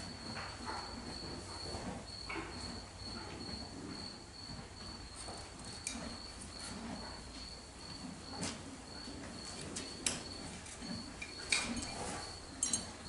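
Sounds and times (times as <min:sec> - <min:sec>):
cricket trilling: 0:00.1 - 0:13.0.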